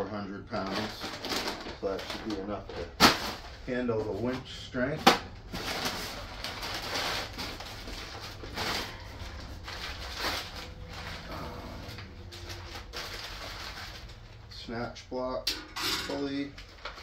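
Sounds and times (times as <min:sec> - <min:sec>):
packing paper rustling: 0:00.5 - 0:14.7, 0:16.3 - 0:17.0.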